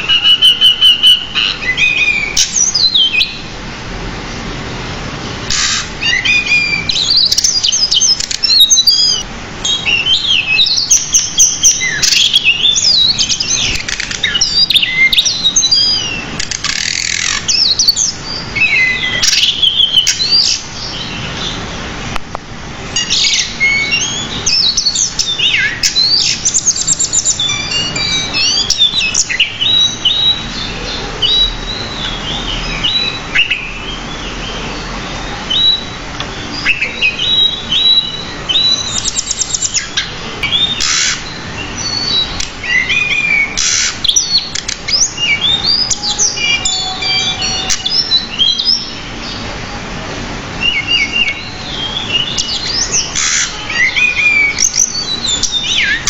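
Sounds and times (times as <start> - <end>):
bird singing chirps and trills: 0.0 - 22.2, 22.8 - 56.0.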